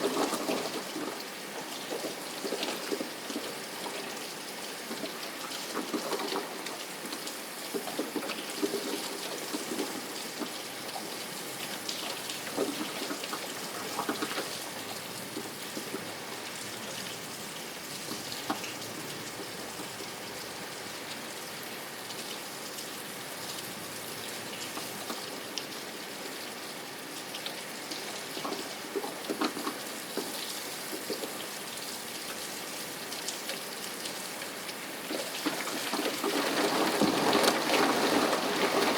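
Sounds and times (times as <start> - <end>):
louder raindrops pattering: 0.0 - 38.9
steady rain falling: 0.0 - 38.9.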